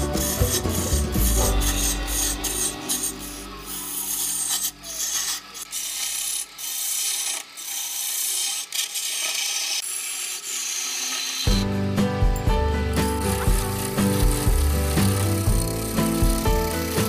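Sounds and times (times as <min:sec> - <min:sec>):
lathe gouge scraping wood: 0:00.0 - 0:11.6, 0:12.9 - 0:17.0.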